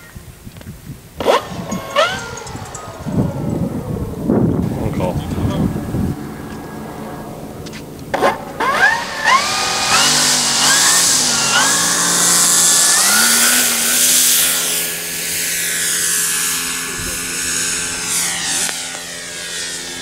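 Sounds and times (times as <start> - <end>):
electric motor whine: 1.1 - 20.0
propeller rushing hiss: 1.1 - 20.0.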